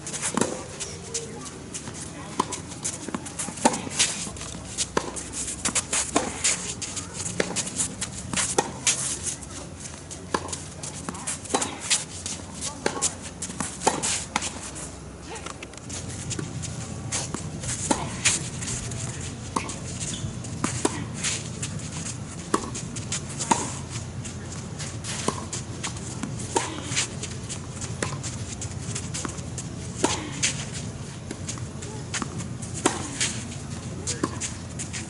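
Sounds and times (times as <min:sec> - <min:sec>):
shoes squeaking on court: 0:00.0 - 0:35.0
tennis balls struck by racquets: 0:00.2 - 0:09.1, 0:10.2 - 0:14.7, 0:15.4 - 0:21.8, 0:22.5 - 0:23.9, 0:25.0 - 0:28.3, 0:29.0 - 0:34.6.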